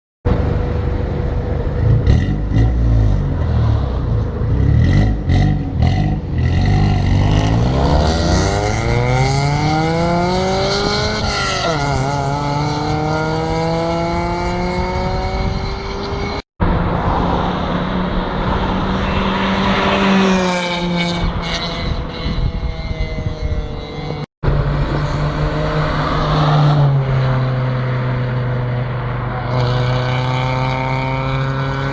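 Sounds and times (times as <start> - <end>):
car engine revving: 0.3 - 31.9.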